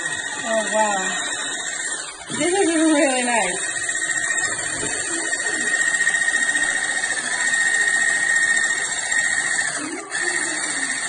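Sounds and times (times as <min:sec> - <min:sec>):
hand blender whining: 0:00.0 - 0:11.0.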